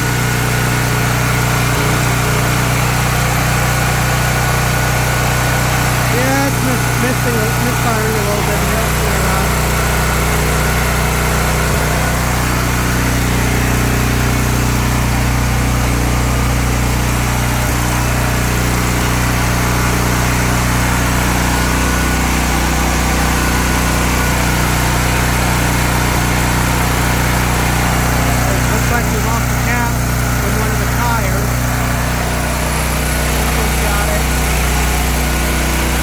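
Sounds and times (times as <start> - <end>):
generator engine running: 0.0 - 36.0.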